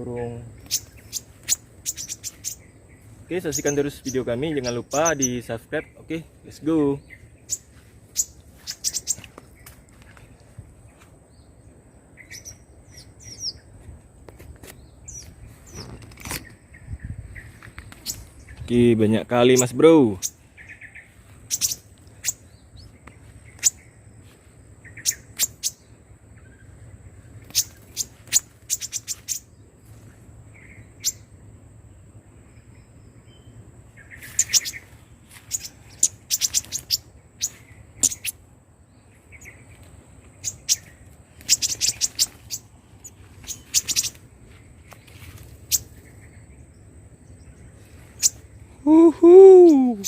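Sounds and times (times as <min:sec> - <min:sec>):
small songbirds chirping: 0:00.0 - 0:50.0.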